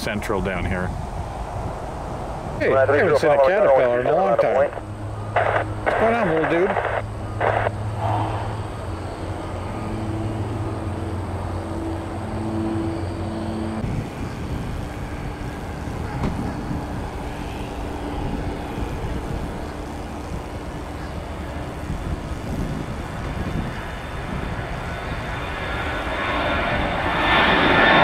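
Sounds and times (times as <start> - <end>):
jet airliner taking off: 0.0 - 28.0
low engine hum: 0.8 - 28.0.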